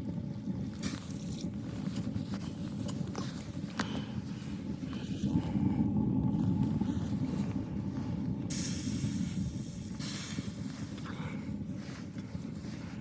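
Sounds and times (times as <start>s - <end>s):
blizzard wind on microphone: 1.2s - 13.0s.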